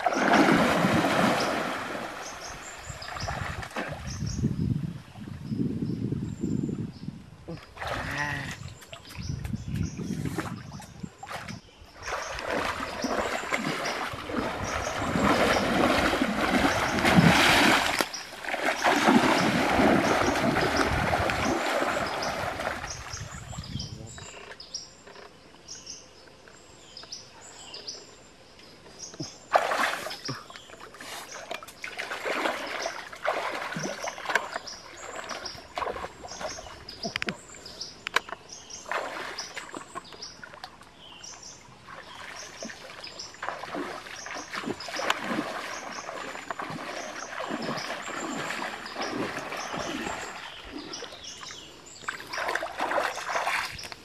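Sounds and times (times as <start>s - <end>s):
water splashing: 0.0s - 4.2s, 7.5s - 9.5s, 10.1s - 23.6s, 29.5s - 54.0s.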